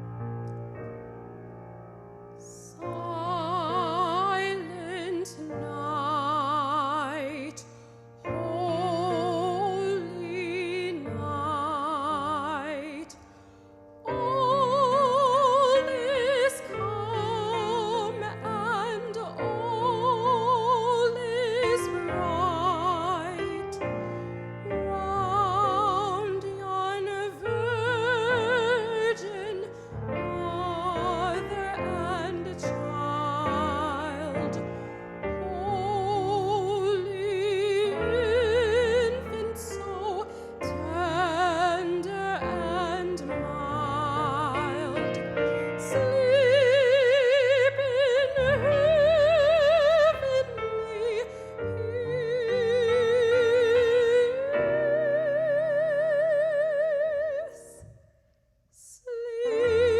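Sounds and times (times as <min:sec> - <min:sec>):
classical solo singing with vibrato: 0:02.4 - 0:58.0, 0:58.7 - 0:59.9.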